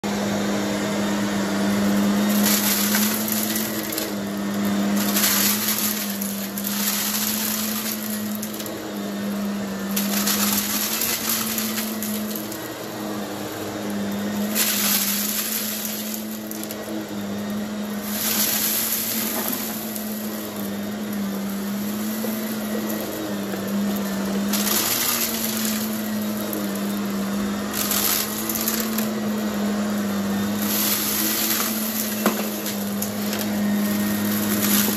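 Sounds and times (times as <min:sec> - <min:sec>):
vacuum cleaner motor hum: 0:00.0 - 0:34.9
vacuum picking up debris: 0:00.2 - 0:34.9.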